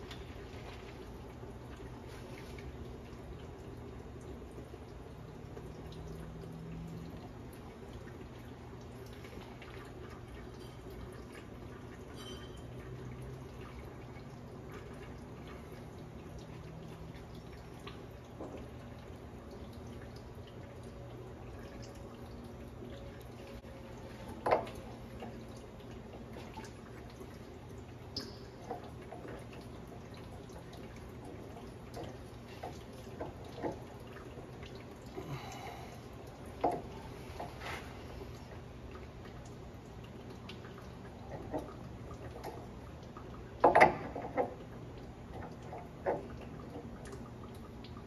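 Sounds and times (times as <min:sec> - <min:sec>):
liquid dripping: 0:00.0 - 0:48.0
steady low hum: 0:00.0 - 0:48.0.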